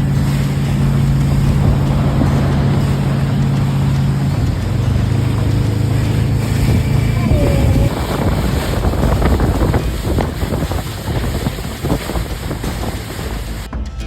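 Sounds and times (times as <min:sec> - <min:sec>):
boat motor hum: 0:00.0 - 0:13.7
water splashing: 0:00.0 - 0:13.7
wind buffeting microphone: 0:00.0 - 0:13.7.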